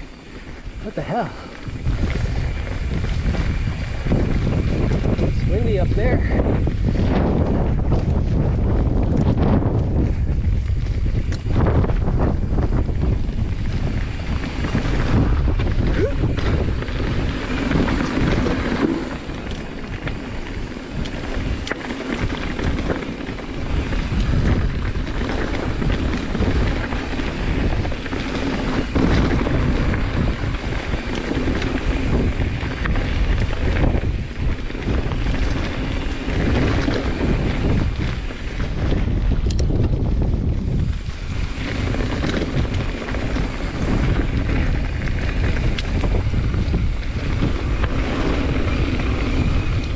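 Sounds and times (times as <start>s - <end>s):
bike tyres rumbling on dirt trail: 0.0s - 49.9s
wind buffeting microphone: 0.0s - 49.9s.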